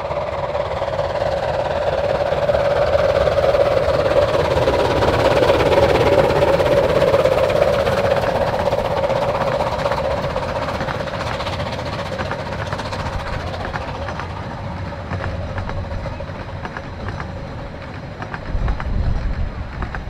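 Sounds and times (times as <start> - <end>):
train wheels clickety-clack: 0.0 - 20.0.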